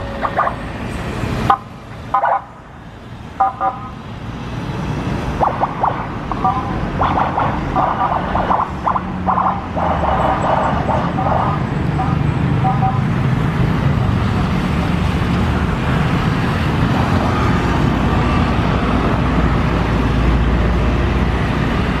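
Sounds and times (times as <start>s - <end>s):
cars and motorcycles passing: 0.0s - 22.0s.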